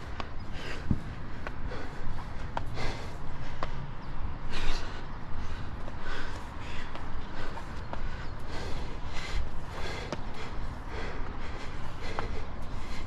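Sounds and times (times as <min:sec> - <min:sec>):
person breathing hard: 0:00.0 - 0:13.0
wind rumble on microphone: 0:00.0 - 0:13.0.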